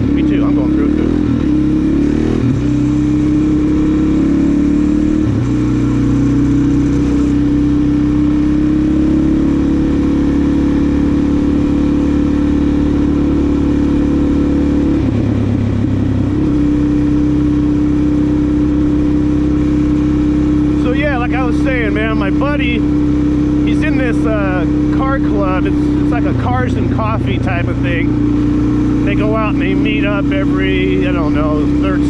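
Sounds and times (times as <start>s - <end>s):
motorcycle engine and exhaust: 0.0s - 32.0s.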